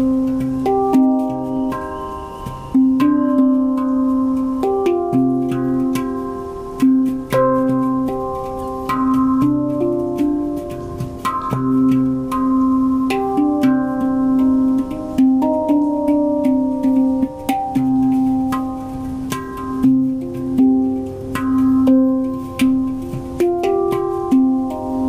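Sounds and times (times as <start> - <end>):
handpan notes ringing: 0.0 - 25.0.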